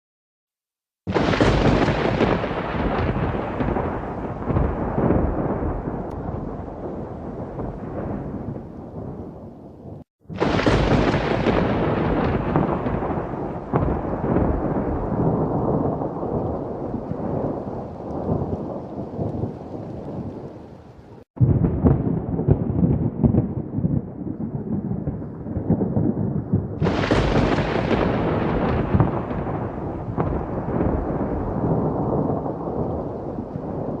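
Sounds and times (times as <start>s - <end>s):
sharp thunderclap: 1.1s - 20.5s, 21.4s - 34.0s
thunder rumbling: 1.1s - 34.0s.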